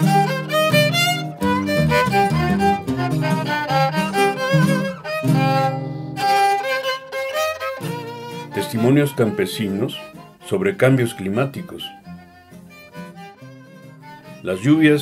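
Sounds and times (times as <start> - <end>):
low bowed strings: 0.0 - 15.0
violin melody: 0.0 - 15.0.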